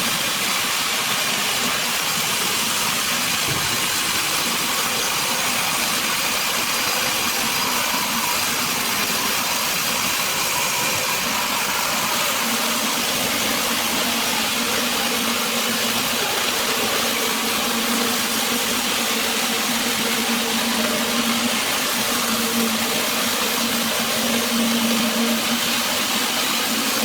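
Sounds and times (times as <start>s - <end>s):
woodworking machine running: 0.2s - 27.0s.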